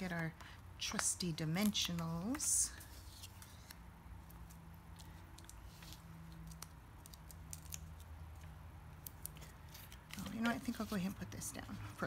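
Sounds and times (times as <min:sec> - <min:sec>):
light ticks and rustles of card: 0:00.4 - 0:11.2.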